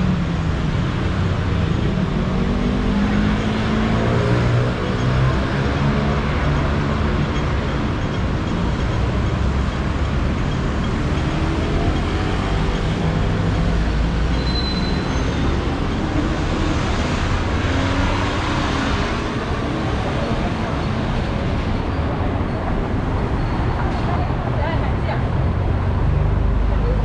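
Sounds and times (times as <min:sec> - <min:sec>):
street traffic: 0:00.0 - 0:27.0.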